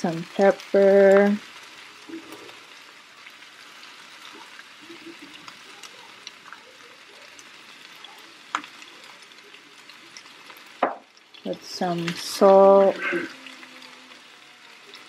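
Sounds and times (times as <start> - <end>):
sausage and potatoes sizzling: 0.0 - 15.0.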